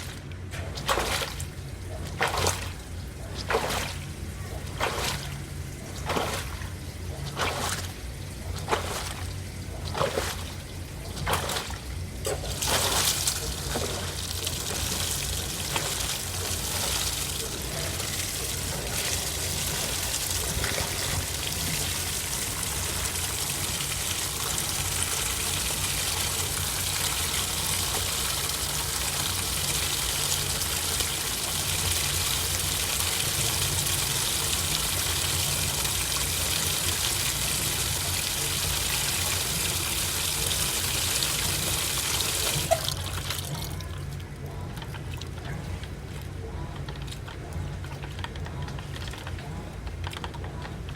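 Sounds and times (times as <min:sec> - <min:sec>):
water rushing into washing machine: 0:00.0 - 0:50.9.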